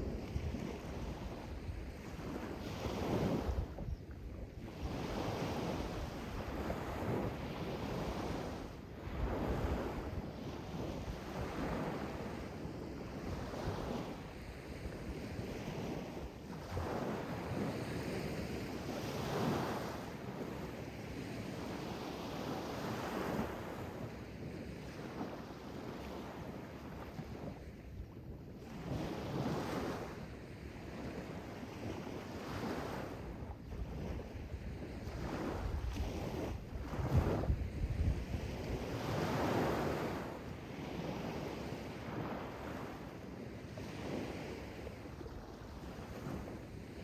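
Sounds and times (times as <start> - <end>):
wind on microphone: 0.0 - 47.0.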